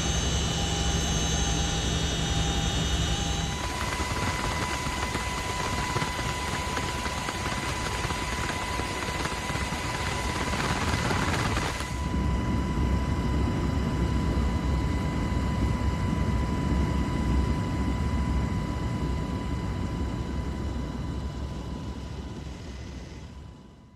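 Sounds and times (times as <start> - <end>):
aircraft engine whine: 0.0 - 23.9.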